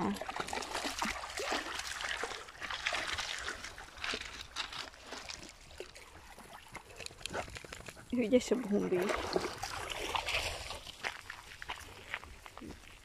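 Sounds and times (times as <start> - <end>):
dogs splashing through water: 0.0 - 13.0
water trickling and dripping: 0.0 - 13.0.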